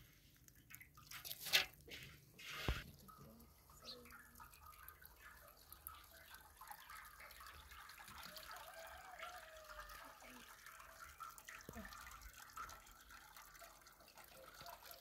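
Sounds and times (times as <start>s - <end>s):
water trickling through colander: 0.0s - 15.0s
water dripping into basin: 0.1s - 1.9s, 2.8s - 15.0s.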